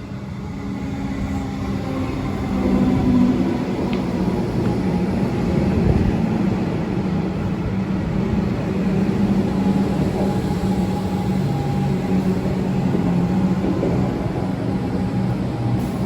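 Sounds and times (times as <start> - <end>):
train rumbling by: 0.0 - 16.0.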